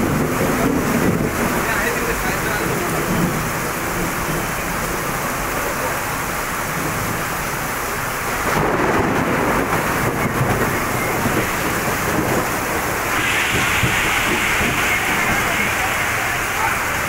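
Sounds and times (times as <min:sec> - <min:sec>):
heavy rain pouring on street: 0:00.0 - 0:17.0.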